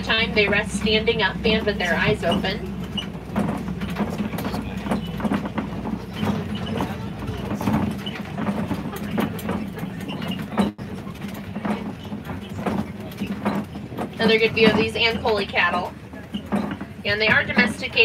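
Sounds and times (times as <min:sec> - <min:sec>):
truck engine hum: 0:00.0 - 0:18.0
vehicle knocks and rattles: 0:00.0 - 0:18.0.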